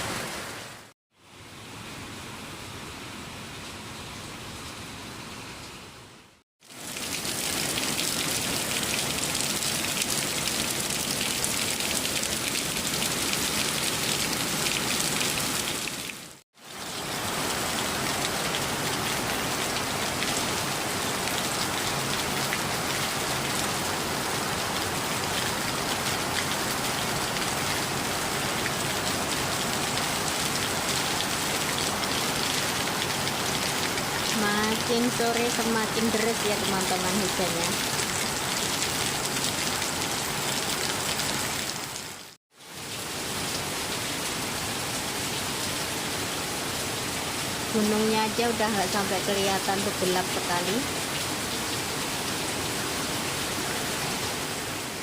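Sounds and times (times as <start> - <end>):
heavy rain falling: 6.6 - 55.0.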